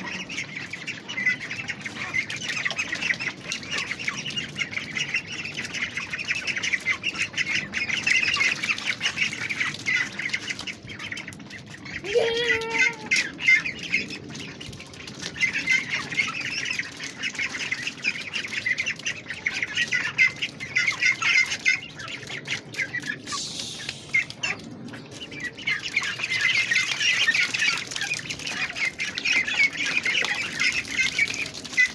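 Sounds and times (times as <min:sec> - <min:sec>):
ducks calling: 0:00.0 - 0:31.9.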